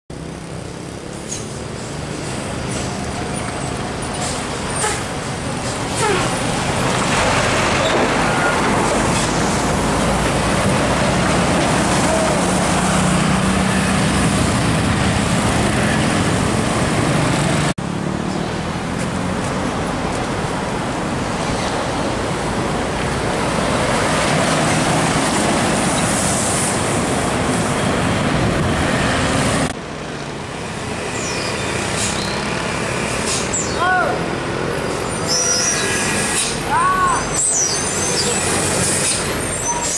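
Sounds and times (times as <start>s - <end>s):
road traffic noise: 0.1s - 39.9s
truck diesel engines: 0.1s - 39.9s.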